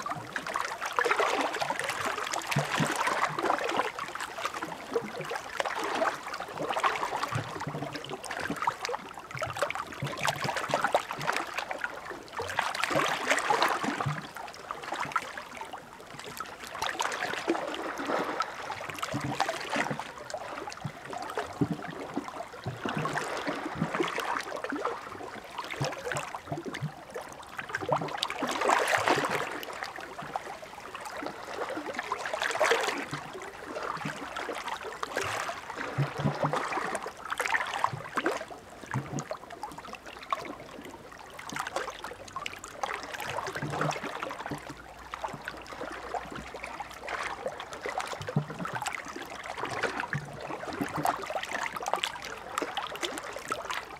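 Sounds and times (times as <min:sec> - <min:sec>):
small waves washing on shore: 0:00.0 - 0:53.9.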